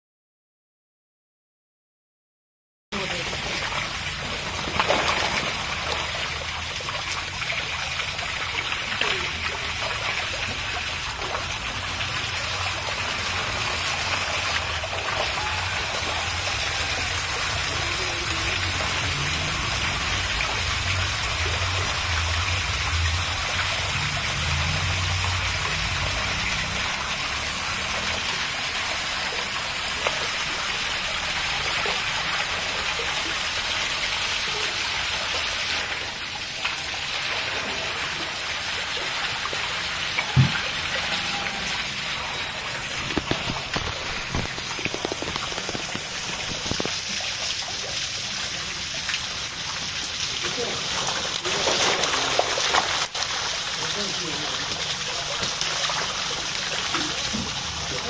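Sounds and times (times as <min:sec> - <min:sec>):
water running over tiled floor: 0:02.9 - 0:58.0.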